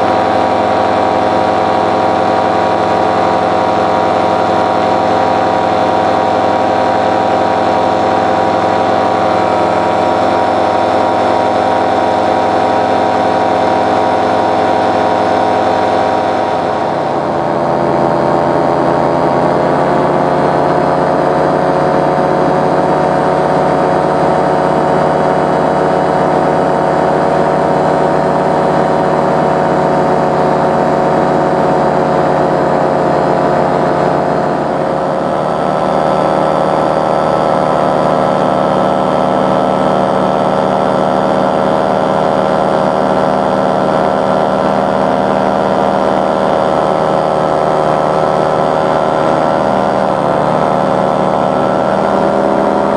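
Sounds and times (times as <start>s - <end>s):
paramotor engine and propeller: 0.0s - 52.9s.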